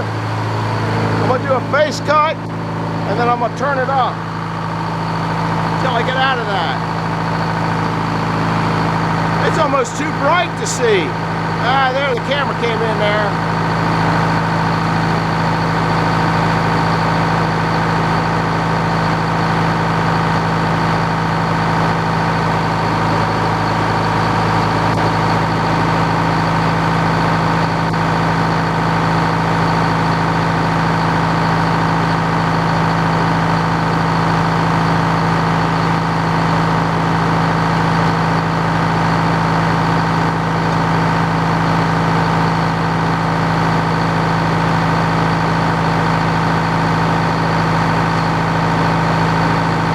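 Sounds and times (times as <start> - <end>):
sawmill mechanical hum: 0.0 - 49.9.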